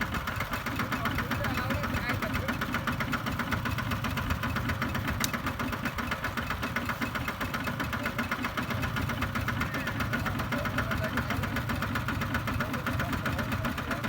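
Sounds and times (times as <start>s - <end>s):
diesel tractor engine chugging: 0.0s - 14.0s.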